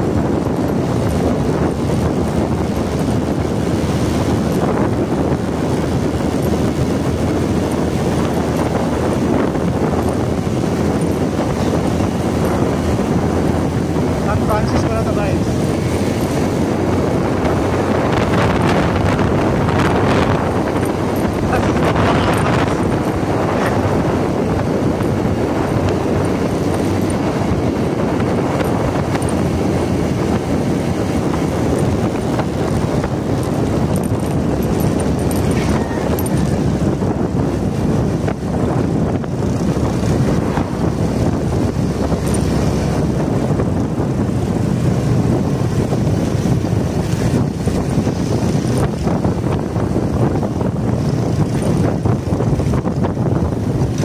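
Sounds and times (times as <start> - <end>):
motorcycle engine running: 0.0 - 54.0
road noise: 0.0 - 54.0
wind buffeting microphone: 0.0 - 54.0.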